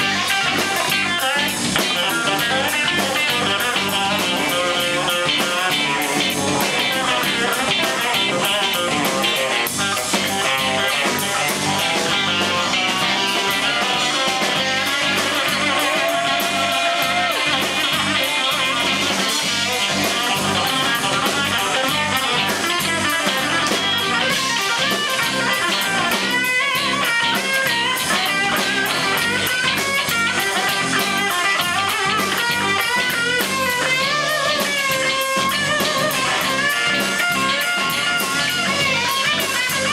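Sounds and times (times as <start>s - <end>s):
bass guitar: 0.0s - 39.9s
drum kit: 0.0s - 39.9s
electric guitar lead lines: 0.0s - 39.9s.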